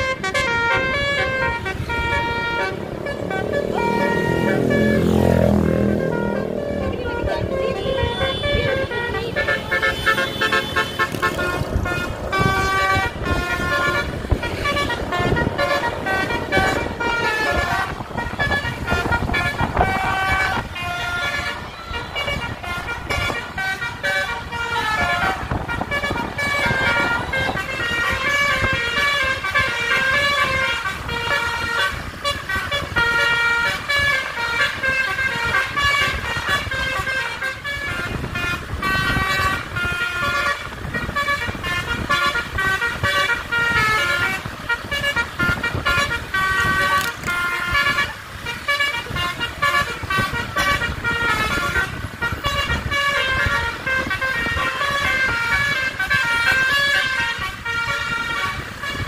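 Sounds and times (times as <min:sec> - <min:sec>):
bus engines rumbling: 0:00.0 - 0:59.0
multi-tone bus horn melody: 0:00.0 - 0:59.0
road noise: 0:00.0 - 0:59.0.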